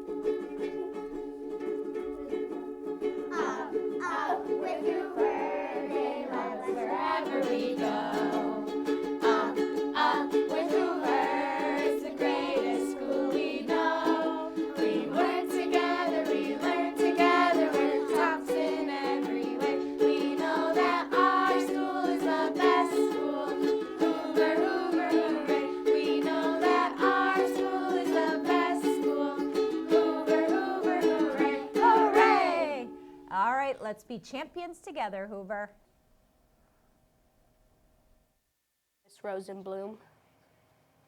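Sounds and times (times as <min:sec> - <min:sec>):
children singing: 0:00.0 - 0:33.0
strummed string accompaniment: 0:00.0 - 0:33.4.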